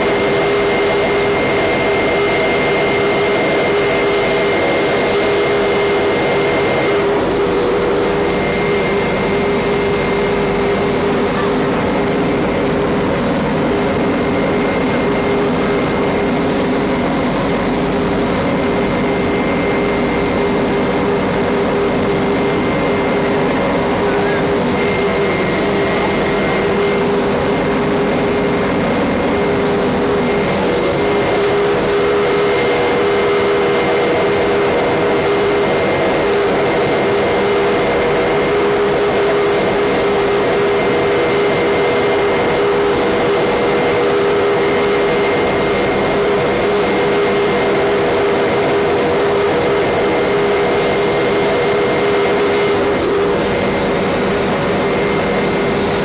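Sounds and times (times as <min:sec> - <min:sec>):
helicopter engine and rotors drone: 0:00.0 - 0:56.0
high whine: 0:00.0 - 0:56.0.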